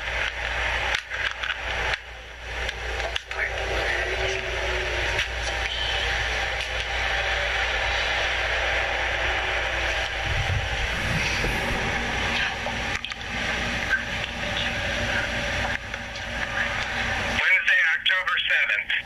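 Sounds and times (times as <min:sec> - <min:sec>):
hissing rumble of background noise: 0:00.0 - 0:19.0.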